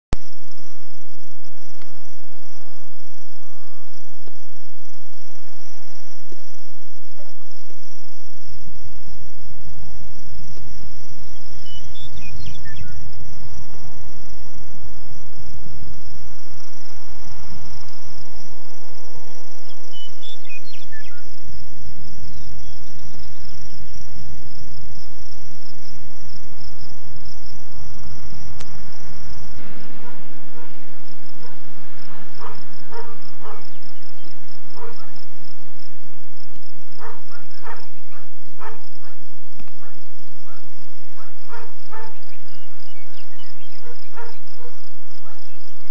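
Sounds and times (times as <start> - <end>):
low rumble: 0.1 - 45.9
insects trilling: 0.3 - 45.9.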